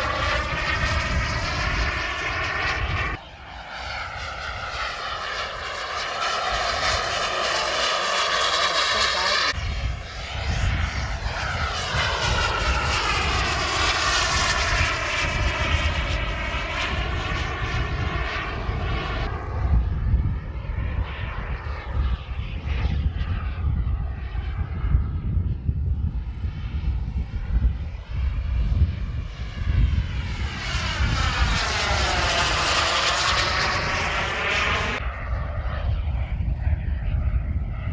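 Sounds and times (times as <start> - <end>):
model jet whine: 0.0 - 37.9
steady low rumble: 0.0 - 37.9.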